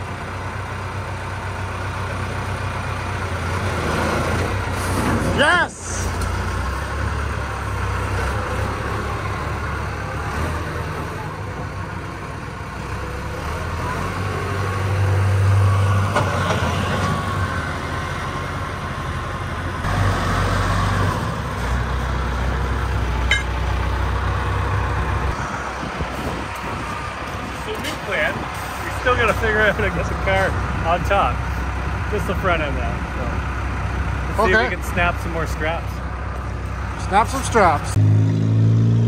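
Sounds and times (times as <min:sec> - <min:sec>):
tractor diesel engine rumbling: 0:00.0 - 0:38.0.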